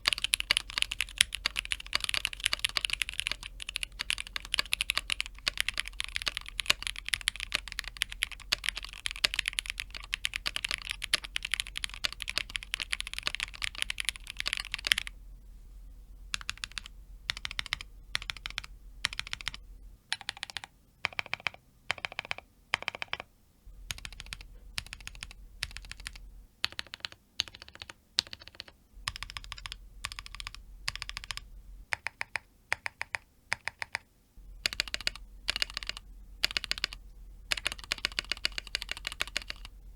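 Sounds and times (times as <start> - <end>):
mechanical keyboard typing: 0.0 - 15.1, 16.3 - 23.3, 23.9 - 39.7.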